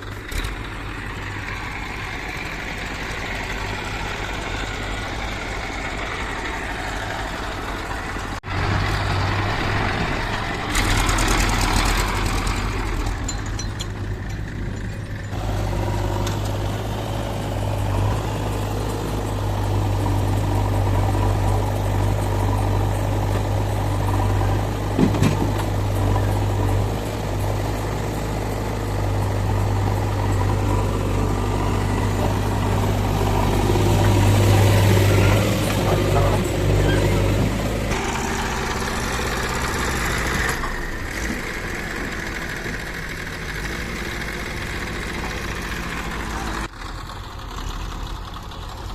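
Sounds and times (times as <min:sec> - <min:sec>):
diesel engine humming: 0:00.0 - 0:48.9.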